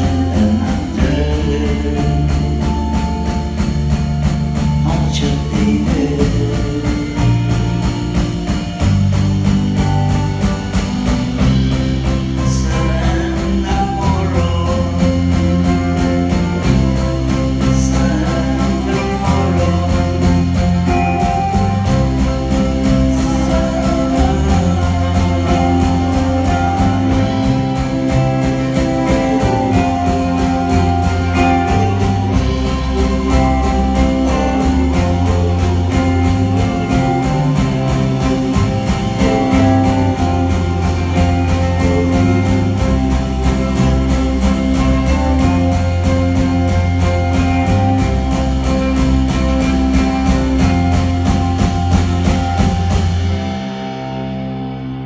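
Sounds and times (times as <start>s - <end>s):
bass line: 0.0s - 55.0s
drums beating: 0.0s - 55.0s
guitars: 0.0s - 55.0s.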